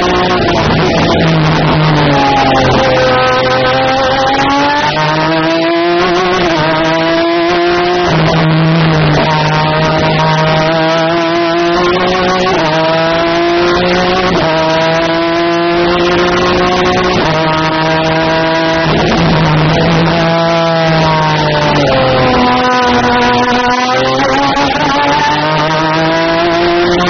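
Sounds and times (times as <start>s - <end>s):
racing engine shifting gears: 0.0s - 27.0s.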